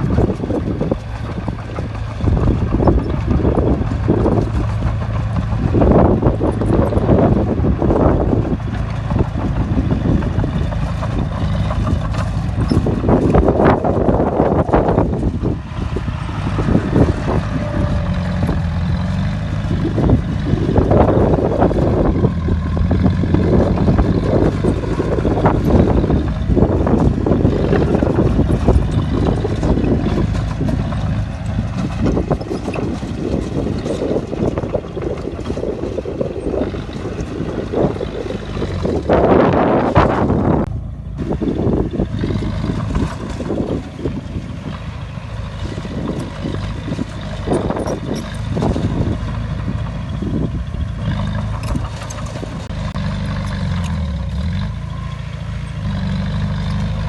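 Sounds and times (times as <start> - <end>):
bulldozer diesel engine droning: 0.0 - 57.0.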